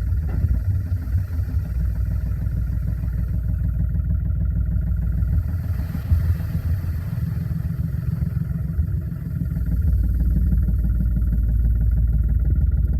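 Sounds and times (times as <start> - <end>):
tractor diesel engine under load: 0.0 - 12.9.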